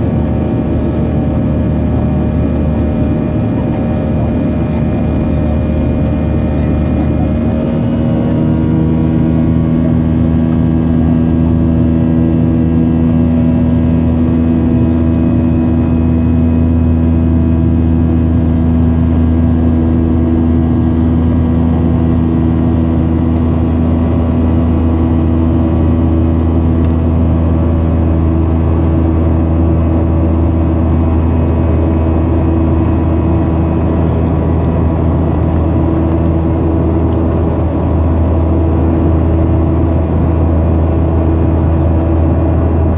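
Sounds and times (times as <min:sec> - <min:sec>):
jet engines droning in cabin: 0:00.0 - 0:42.9.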